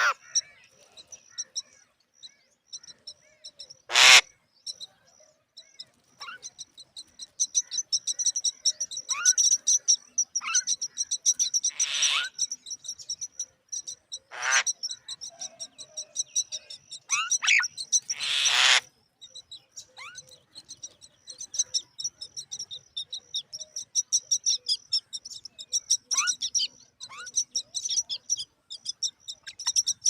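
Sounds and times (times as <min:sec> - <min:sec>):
harsh rasping bird calls: 0:00.0 - 0:30.0.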